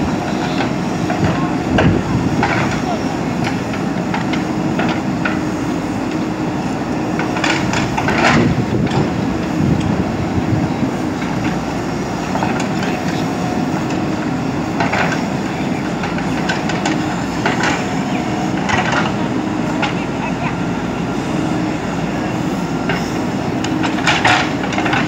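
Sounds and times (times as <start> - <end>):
diesel engine under load: 0.0 - 25.0.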